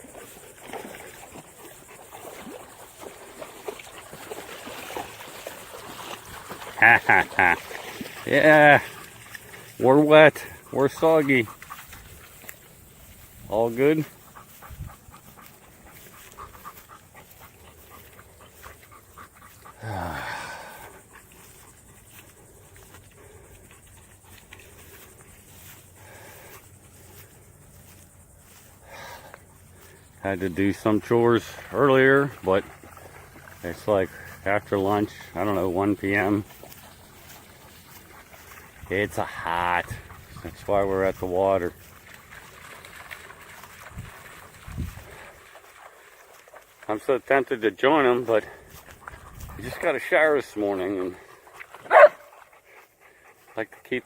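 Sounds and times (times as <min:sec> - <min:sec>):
dogs splashing in shallow water: 0:00.0 - 0:54.0.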